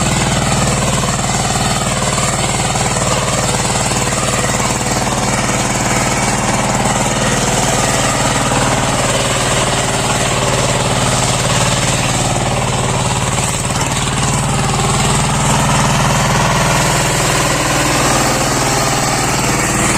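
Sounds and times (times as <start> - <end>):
power tiller diesel engine chugging: 0.0 - 19.9.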